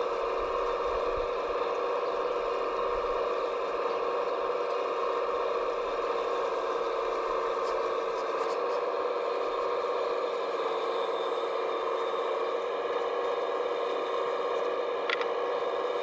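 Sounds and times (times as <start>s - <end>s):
electric motor whine: 0.0s - 16.0s.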